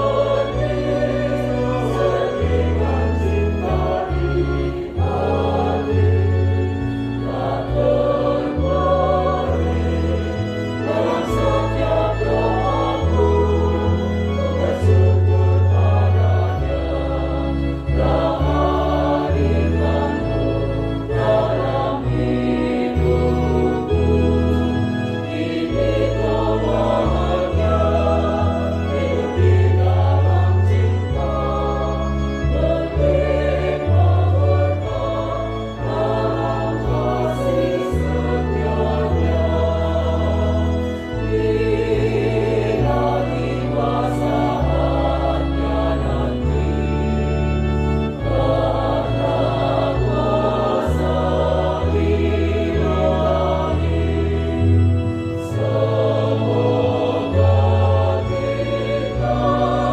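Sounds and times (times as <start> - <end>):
choir singing in harmony: 0.0 - 59.9
low sustained accompaniment: 0.0 - 59.9.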